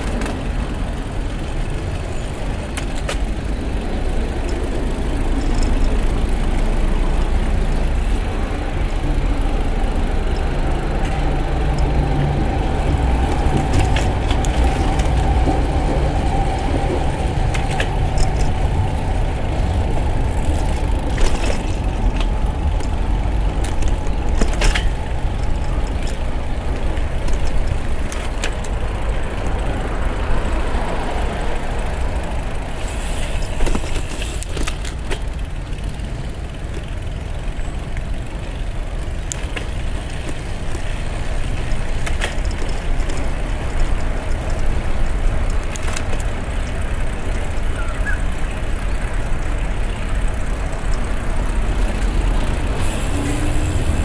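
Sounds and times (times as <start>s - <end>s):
wind and tyre rumble: 0.0s - 54.0s.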